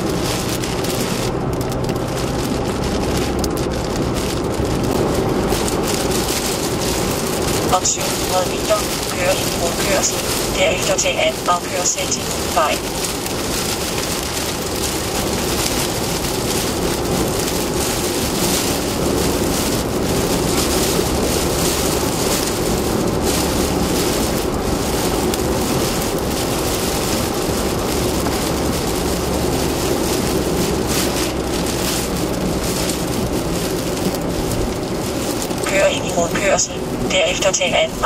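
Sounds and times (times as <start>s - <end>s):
rain on car: 0.0s - 38.0s
tyre and road noise: 0.0s - 38.0s.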